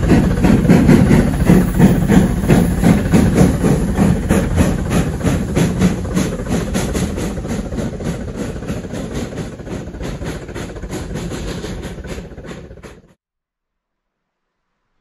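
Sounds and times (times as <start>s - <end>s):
heavy train rumble: 0.0s - 13.2s
steam exhaust beats: 0.0s - 13.2s.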